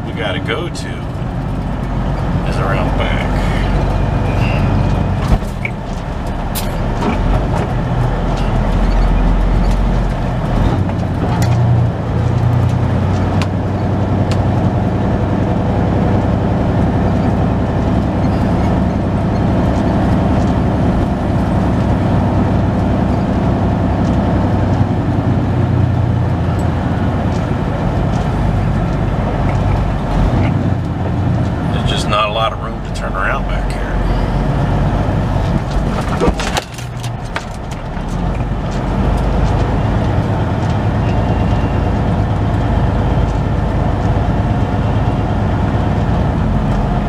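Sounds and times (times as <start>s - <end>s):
diesel engine rumble: 0.0s - 47.0s.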